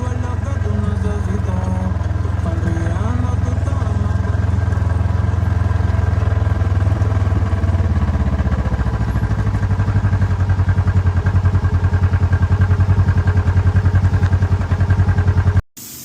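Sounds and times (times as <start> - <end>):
engine idling: 0.0 - 15.6.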